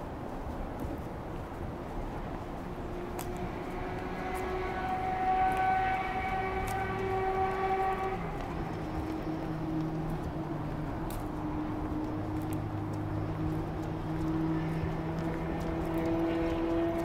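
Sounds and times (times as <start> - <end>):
vehicle pitched tone: 2.7 - 17.0.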